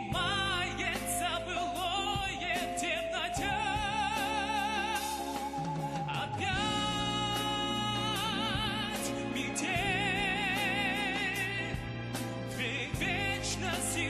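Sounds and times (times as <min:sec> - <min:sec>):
instrumental backing: 0:00.0 - 0:14.0
man singing with vibrato: 0:00.0 - 0:14.0.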